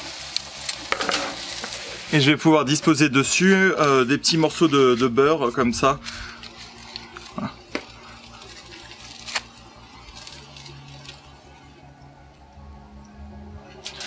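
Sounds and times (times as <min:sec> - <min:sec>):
foil wrapper crinkling: 0:00.0 - 0:11.9
faint steady hum: 0:00.0 - 0:14.0.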